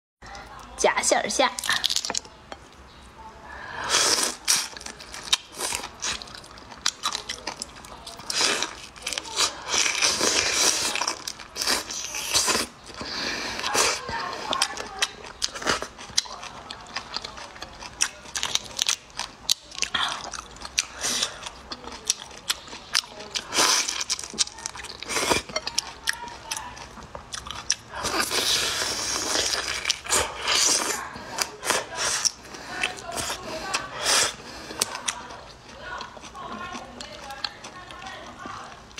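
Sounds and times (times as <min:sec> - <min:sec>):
shrimp shells crunching in chewing: 0:01.6 - 0:02.4, 0:03.8 - 0:38.9.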